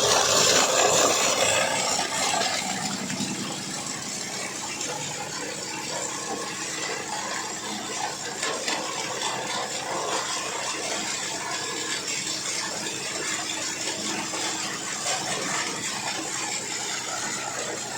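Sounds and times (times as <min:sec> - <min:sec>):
bottle grinder motor hum: 0:00.0 - 0:17.9.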